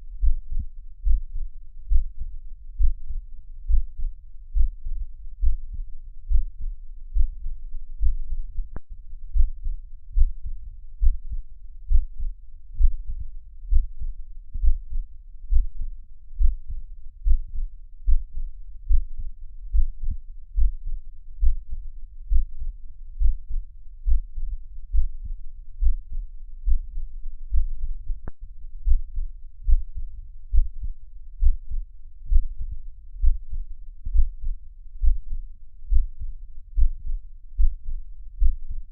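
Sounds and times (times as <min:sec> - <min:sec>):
heartbeat thuds: 0:00.2 - 0:22.6, 0:23.2 - 0:38.9.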